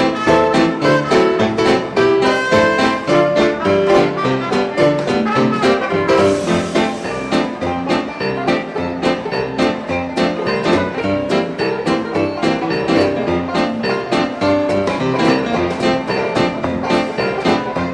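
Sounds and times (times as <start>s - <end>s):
jazz dance orchestra playing: 0.0s - 17.9s.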